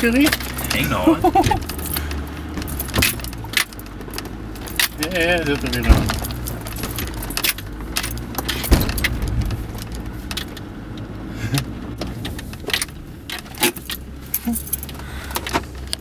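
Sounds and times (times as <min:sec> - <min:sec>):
car interior clicks and rattles: 0:00.0 - 0:16.0
diesel engine running low: 0:00.0 - 0:16.0.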